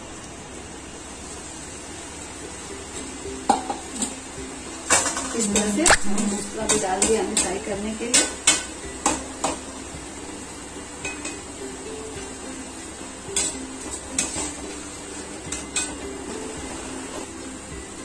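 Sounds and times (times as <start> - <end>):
noodles sizzling in oil: 0.0 - 18.0.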